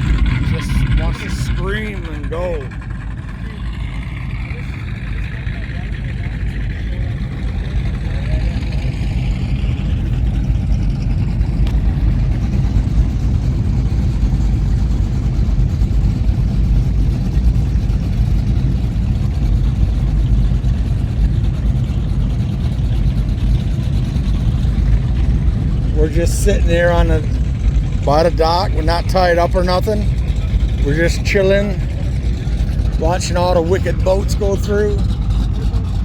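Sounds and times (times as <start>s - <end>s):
powerboat engines rumbling: 0.0s - 36.0s.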